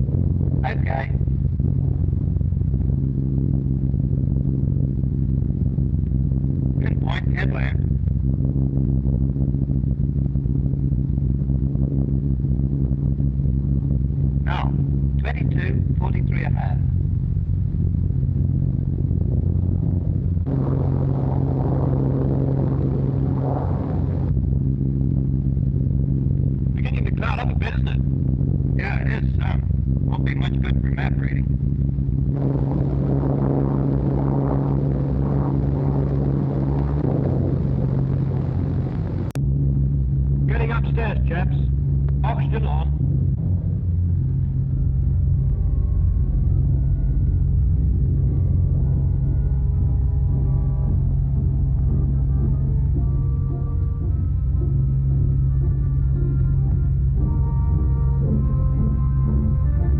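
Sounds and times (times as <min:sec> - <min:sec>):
heavy bomber engines droning: 0:00.0 - 0:59.9.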